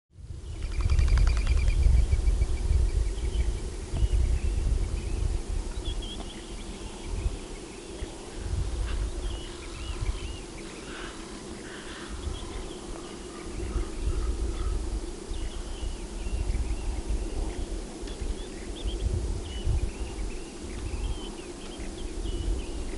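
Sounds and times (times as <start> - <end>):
wind rumble on microphone: 0.1 - 22.9
steady hum: 0.2 - 22.9
small birds chirping: 0.4 - 22.9.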